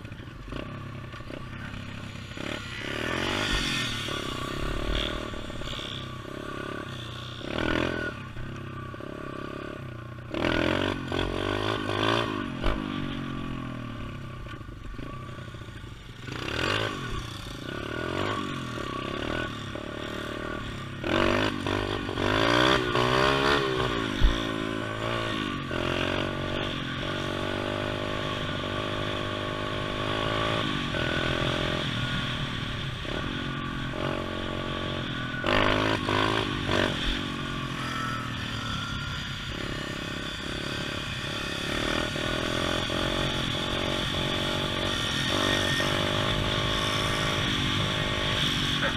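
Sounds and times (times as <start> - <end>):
pit bike engine revving: 0.0 - 14.2, 14.9 - 48.9.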